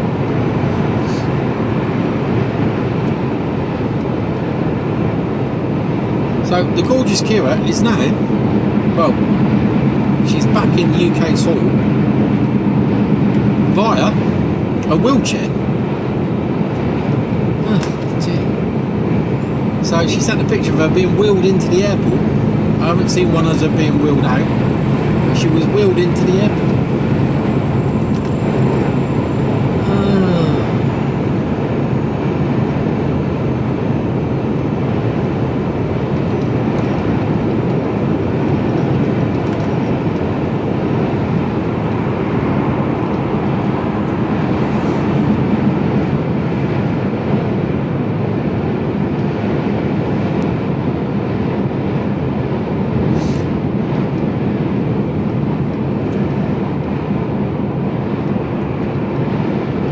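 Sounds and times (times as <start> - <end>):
truck engine hum: 0.0 - 59.9
tyre and road noise: 0.0 - 59.9.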